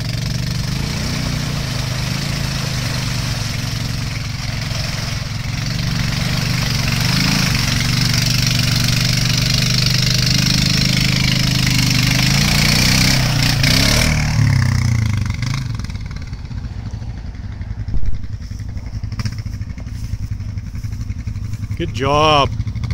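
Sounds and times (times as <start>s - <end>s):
atv engine revving: 0.0s - 22.9s
tires churning through mud: 0.0s - 22.9s.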